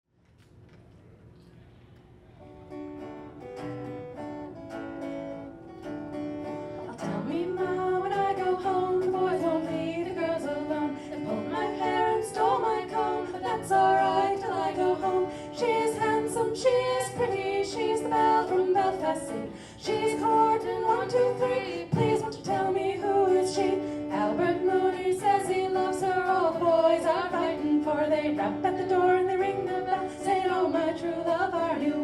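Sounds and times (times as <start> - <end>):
plucked string notes: 3.0 - 32.0.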